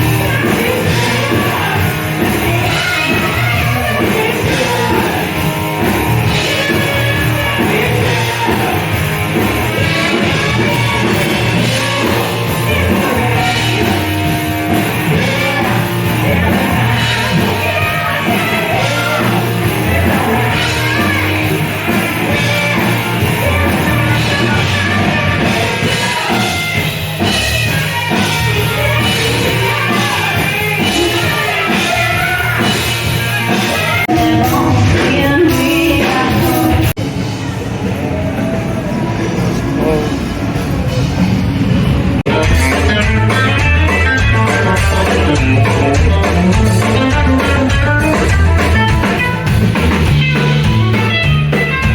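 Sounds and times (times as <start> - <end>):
rock music with singing: 0.0 - 51.9.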